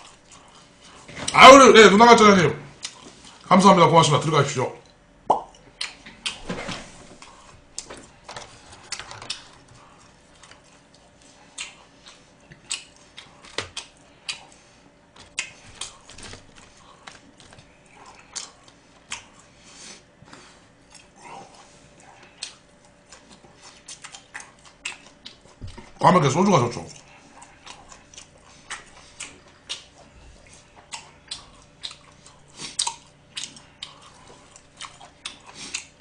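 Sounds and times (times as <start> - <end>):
chewing smacks: 0.0 - 1.4, 2.8 - 3.5, 4.8 - 6.4, 7.2 - 19.6, 20.2 - 26.0, 26.8 - 36.0.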